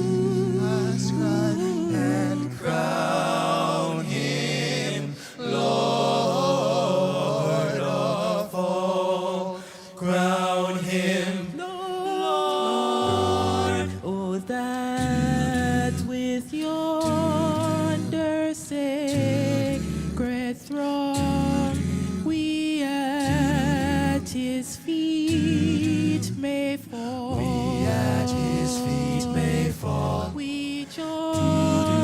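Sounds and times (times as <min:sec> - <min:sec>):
vocal group singing in harmony: 0:00.0 - 0:32.0.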